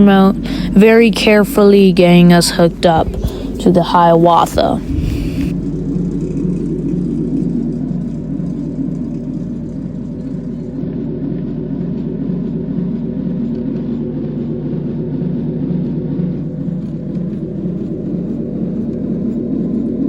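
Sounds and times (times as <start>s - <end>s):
faint hum: 0.0s - 20.0s
train wheels rumbling on rail: 0.0s - 20.0s.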